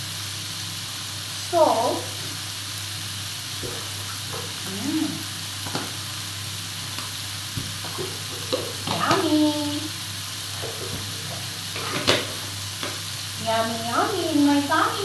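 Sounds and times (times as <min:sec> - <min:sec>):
seafood sizzling in a pan: 0:00.0 - 0:15.0.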